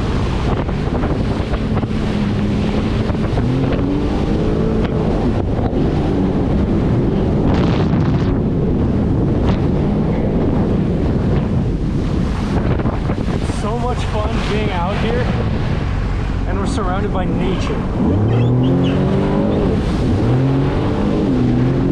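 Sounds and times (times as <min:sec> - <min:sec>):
jet ski engine: 0:00.0 - 0:21.9
rushing water: 0:00.0 - 0:21.9
water splashes: 0:00.0 - 0:21.9
wind buffeting microphone: 0:00.0 - 0:21.9.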